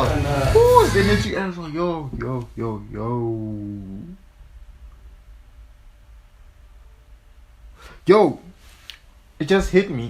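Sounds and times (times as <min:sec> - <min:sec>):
faint low hum and hiss: 0:00.0 - 0:10.0.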